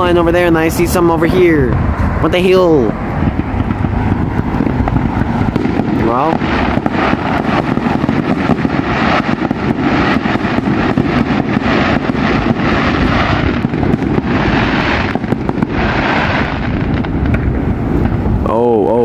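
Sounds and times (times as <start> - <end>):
fireworks bangs and crackling: 0.0 - 19.0
low rumble: 0.0 - 19.0.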